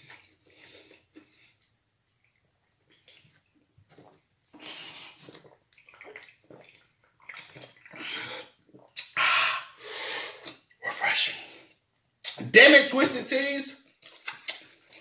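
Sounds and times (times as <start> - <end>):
man gulping a drink: 0.0 - 11.0, 14.0 - 15.0.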